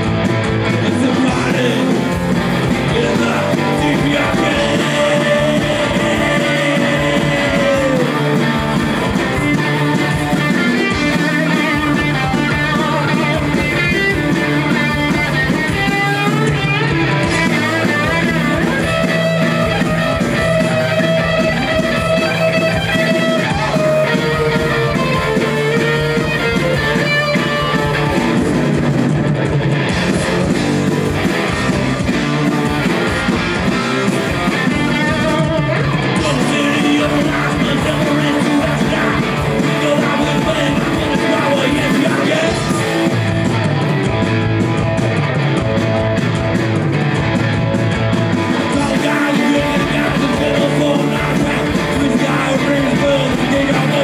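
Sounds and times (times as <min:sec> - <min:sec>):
bass guitar: 0:00.0 - 0:54.0
electric guitar: 0:00.0 - 0:54.0
punk rock band playing live: 0:00.0 - 0:54.0.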